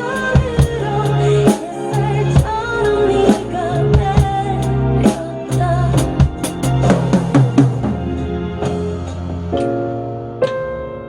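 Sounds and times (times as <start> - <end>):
acoustic drum kit: 0.0 - 9.9
pop ballad backing track: 0.0 - 11.0.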